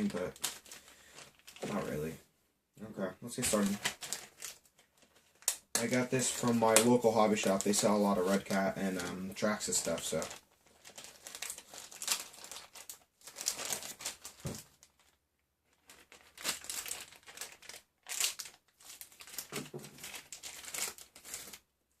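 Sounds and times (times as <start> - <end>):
packaging crinkling and rustling: 0.0 - 2.1, 3.3 - 21.7.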